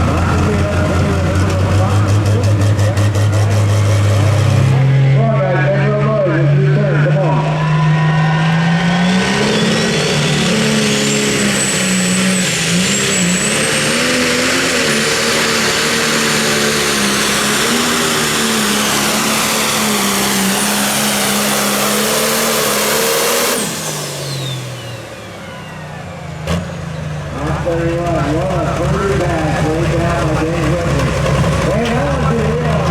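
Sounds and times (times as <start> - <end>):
diesel engine at full throttle: 0.0 - 32.9.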